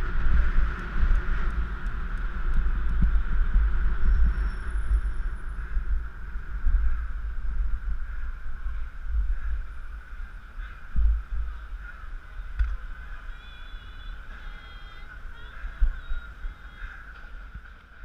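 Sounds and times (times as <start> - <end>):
muffled road and traffic noise: 0.0 - 18.0
wind buffeting microphone: 0.0 - 18.0.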